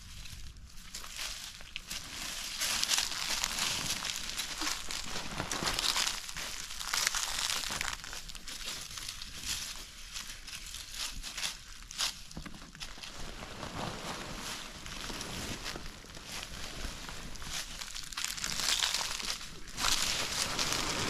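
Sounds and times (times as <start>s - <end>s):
dense rustling and crinkling: 0.0s - 21.0s.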